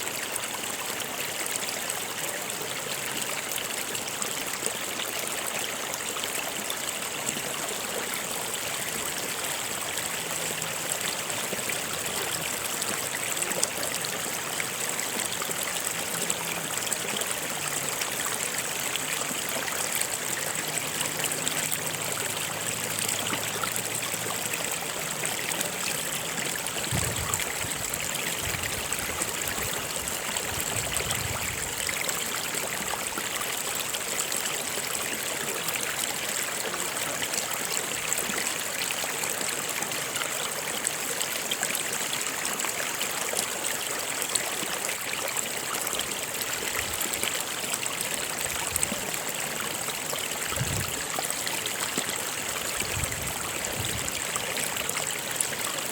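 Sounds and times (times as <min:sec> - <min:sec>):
stream water flowing: 0:00.0 - 0:55.9.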